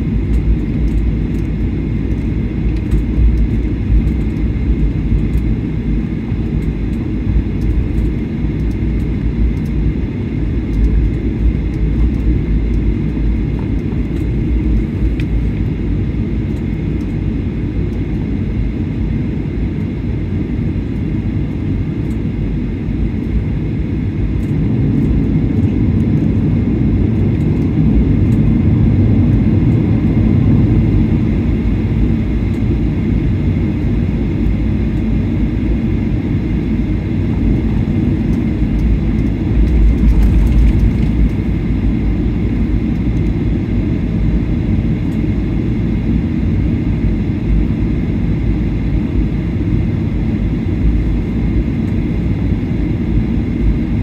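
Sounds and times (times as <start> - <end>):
faint steady whine: 0.0 - 54.0
jet engines low rumble: 0.0 - 54.0.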